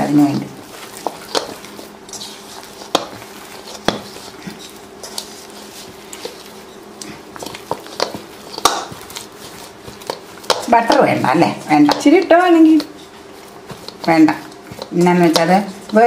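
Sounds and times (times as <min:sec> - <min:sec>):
soft squishing of potato: 0:00.2 - 0:16.0.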